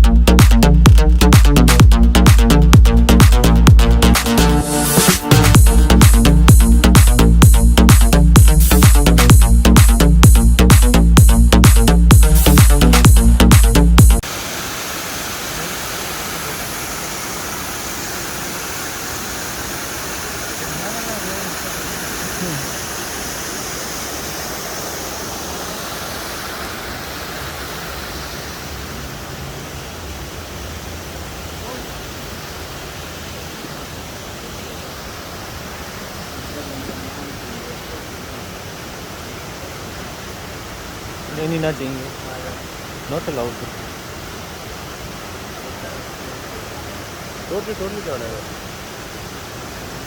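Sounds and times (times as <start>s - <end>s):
waterfall rushing: 0.9s - 50.0s.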